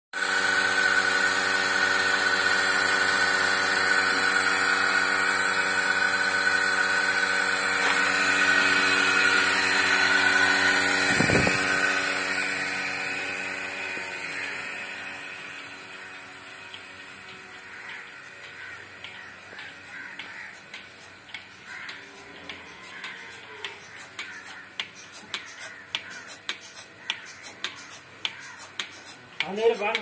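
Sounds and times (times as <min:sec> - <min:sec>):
vacuum pump humming and whining: 0:00.2 - 0:30.0.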